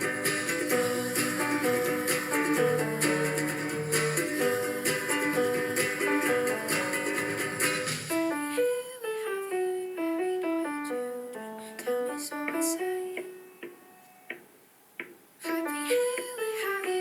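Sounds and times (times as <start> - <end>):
piano melody: 0.0 - 14.6, 15.4 - 17.0.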